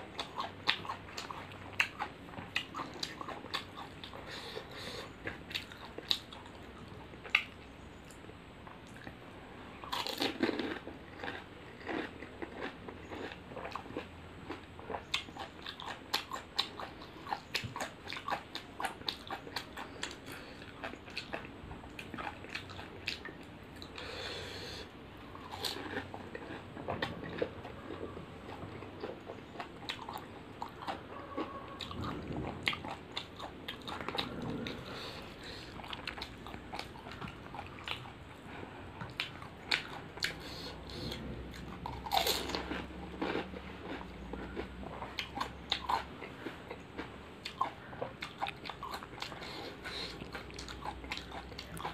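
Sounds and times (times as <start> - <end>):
person chewing crunchy snack: 0.0 - 7.6, 8.9 - 51.9.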